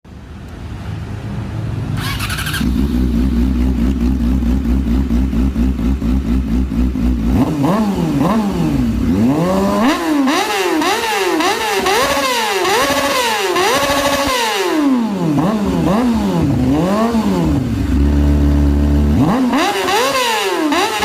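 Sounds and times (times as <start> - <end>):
motorcycle engine revving: 1.9 - 21.0
motorcycle engine starting and idling: 1.9 - 21.0.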